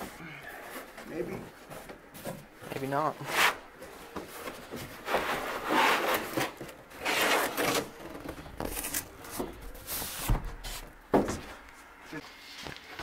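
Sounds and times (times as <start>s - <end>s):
packing foam and cardboard rustling: 0.0s - 11.0s.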